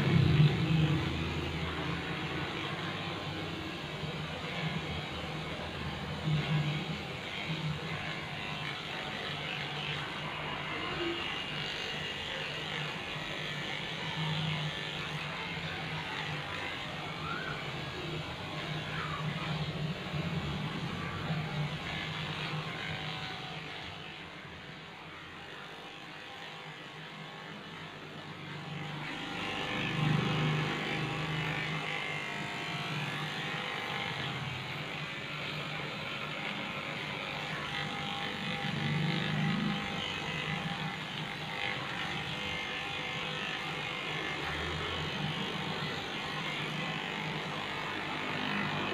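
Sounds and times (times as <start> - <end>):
hair clipper buzzing: 0.0 - 48.9.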